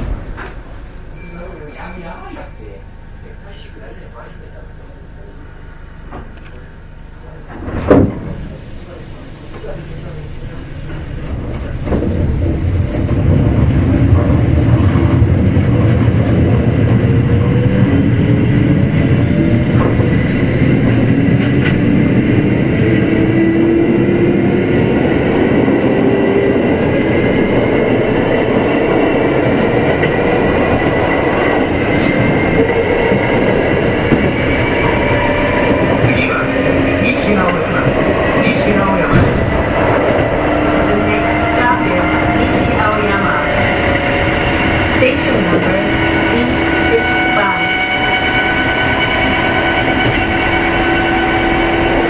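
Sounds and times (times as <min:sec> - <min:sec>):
wheels rumbling on rail: 0:00.0 - 0:52.0.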